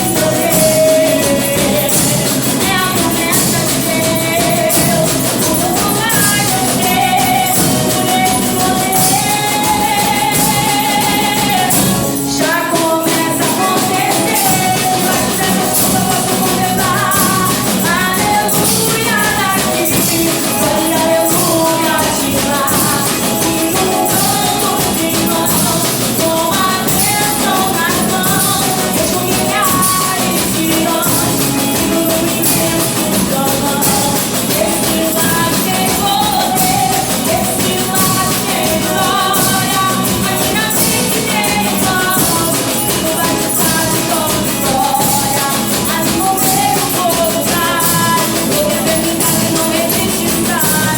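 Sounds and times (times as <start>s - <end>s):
drums and cymbals: 0.0s - 50.9s
people singing worship song: 0.0s - 50.9s.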